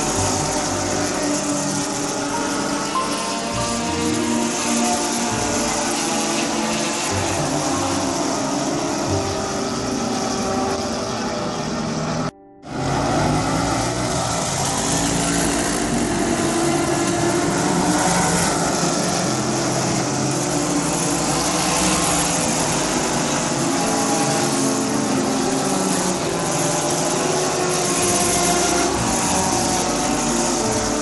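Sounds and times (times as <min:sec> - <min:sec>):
race car engines rolling past: 0:00.0 - 0:31.0.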